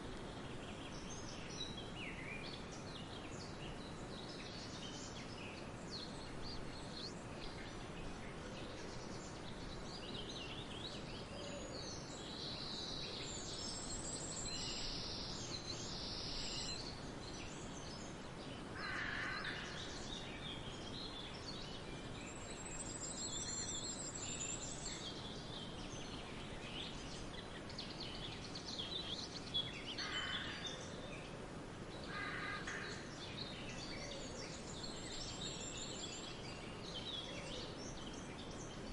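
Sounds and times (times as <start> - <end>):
outdoor background noise: 0.0 - 38.9
birds chirping and trilling: 0.1 - 38.9.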